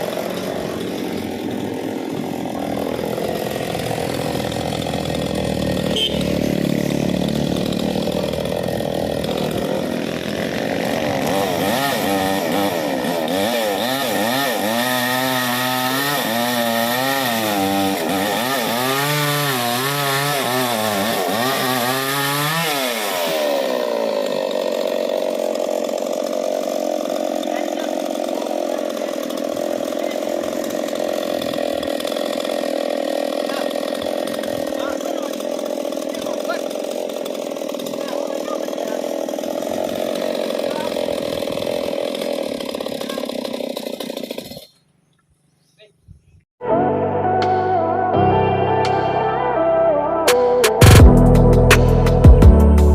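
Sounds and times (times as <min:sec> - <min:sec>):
chainsaw cutting wood: 0:00.0 - 0:45.0, 0:50.3 - 0:52.9.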